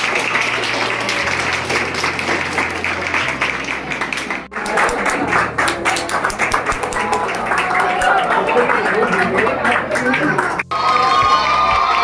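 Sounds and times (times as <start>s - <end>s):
music playing: 0.0s - 12.0s
small group clapping: 0.0s - 12.0s.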